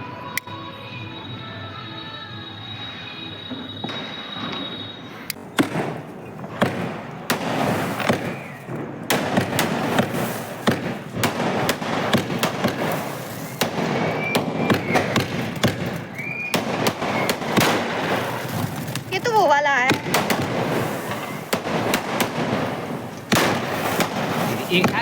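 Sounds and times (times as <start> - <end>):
firework bangs and crackling: 0.0 - 25.0
firework whistles: 0.0 - 25.0.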